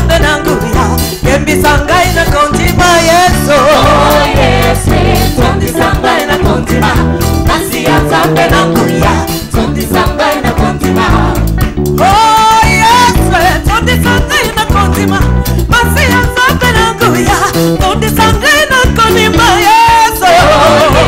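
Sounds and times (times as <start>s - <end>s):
person singing: 0.0s - 11.3s, 12.0s - 21.0s
bass line: 0.0s - 21.0s
drum kit: 0.0s - 21.0s
upbeat gospel band music: 0.0s - 21.0s.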